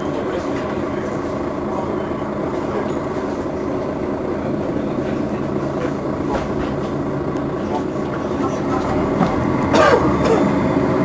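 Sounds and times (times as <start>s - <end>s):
bus diesel engine idling: 0.0s - 11.0s.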